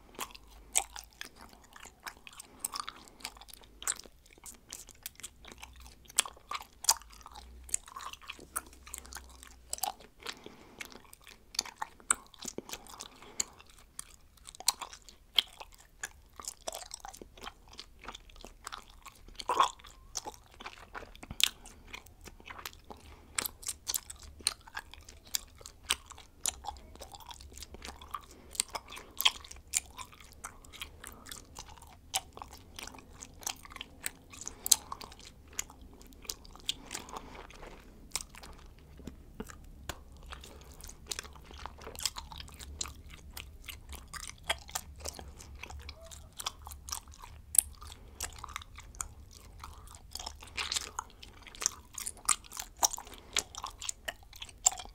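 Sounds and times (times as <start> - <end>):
person chewing bubblegum: 0.0 - 54.9.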